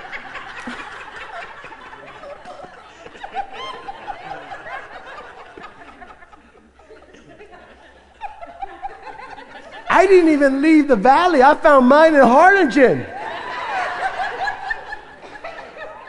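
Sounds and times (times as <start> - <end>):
congregation laughing: 0.0 - 16.0.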